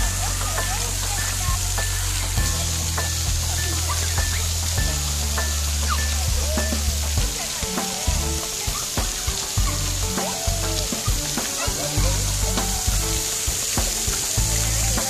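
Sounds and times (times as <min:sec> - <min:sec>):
water jets spraying on paving: 0:00.0 - 0:15.0.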